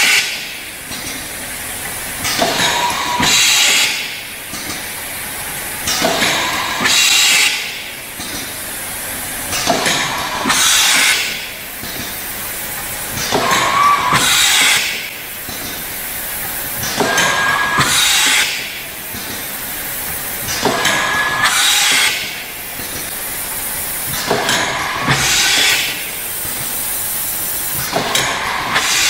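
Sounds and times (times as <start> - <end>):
machine running noise: 0.0 - 29.0.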